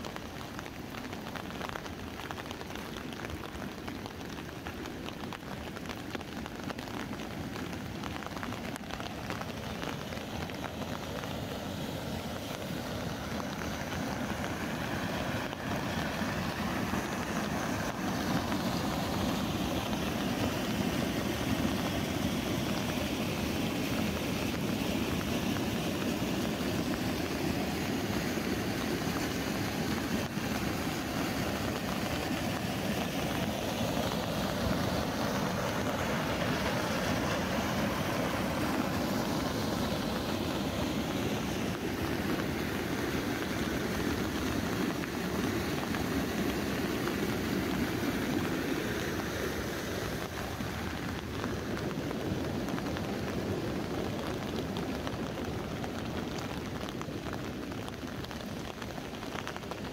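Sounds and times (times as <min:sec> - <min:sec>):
rain on umbrella: 0:00.0 - 0:59.9
river water rushing over weir: 0:00.0 - 0:59.9.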